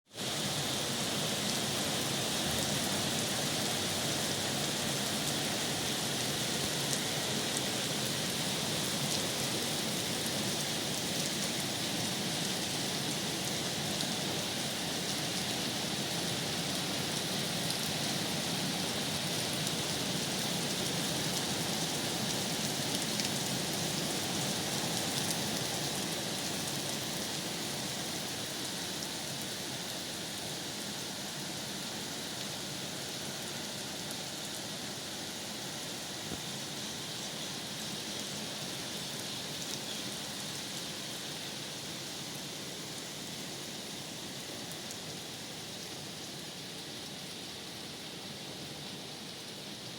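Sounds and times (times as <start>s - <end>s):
heavy rain falling: 0.1s - 49.9s.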